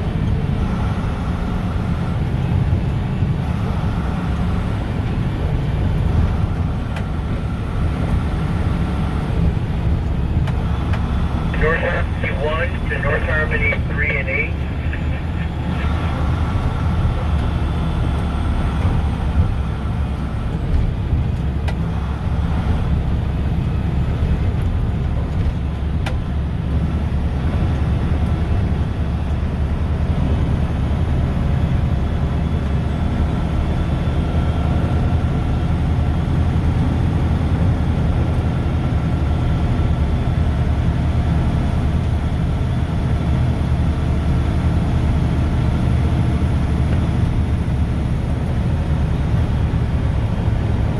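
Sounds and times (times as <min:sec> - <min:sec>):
diesel truck engine drone: 0:00.0 - 0:50.9
road noise: 0:00.0 - 0:50.9.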